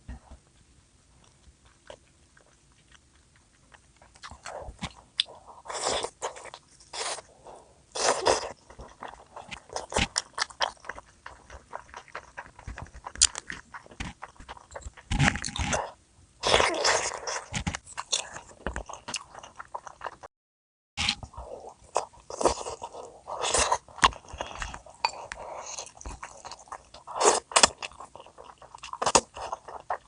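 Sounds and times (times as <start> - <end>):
bites and chewing: 0.1 - 20.3, 21.0 - 30.0.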